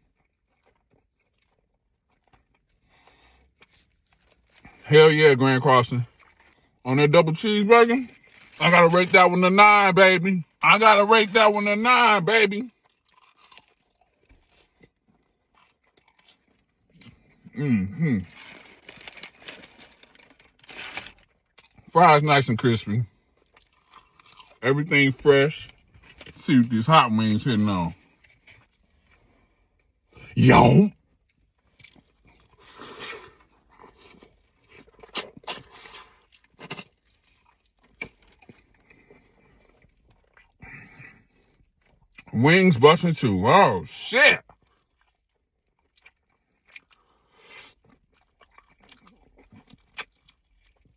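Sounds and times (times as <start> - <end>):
crunchy chewing of fries: 0.0 - 50.9.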